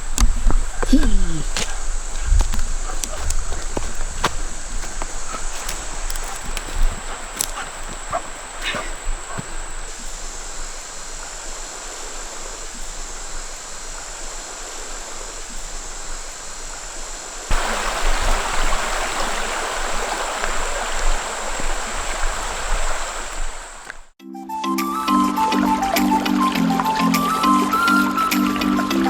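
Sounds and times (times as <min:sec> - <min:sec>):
rushing water: 0:00.0 - 0:24.2, 0:25.1 - 0:29.0.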